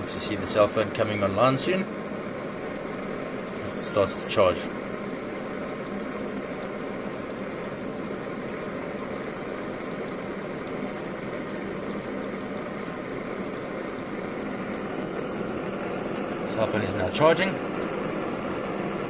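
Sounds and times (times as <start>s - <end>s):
engine generator humming: 0.0s - 19.0s.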